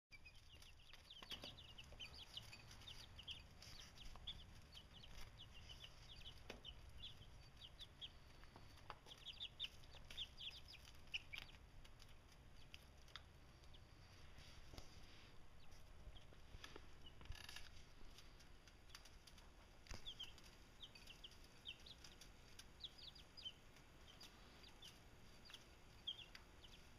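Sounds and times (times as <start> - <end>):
chicks peeping: 0.1 - 26.9.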